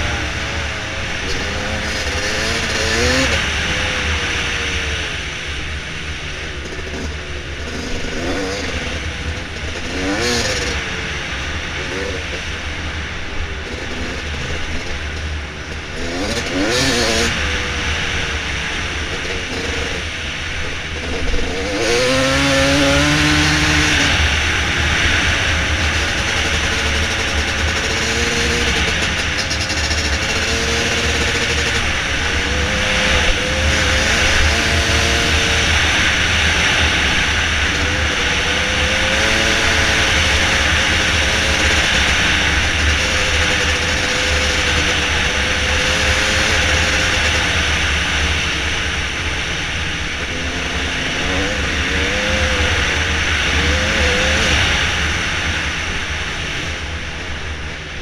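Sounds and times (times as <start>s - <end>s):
dirt bike engine revving: 0.0s - 56.4s.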